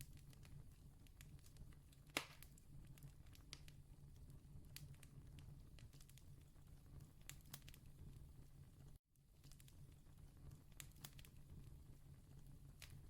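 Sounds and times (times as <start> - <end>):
campfire crackling: 0.0 - 8.3, 9.4 - 13.0.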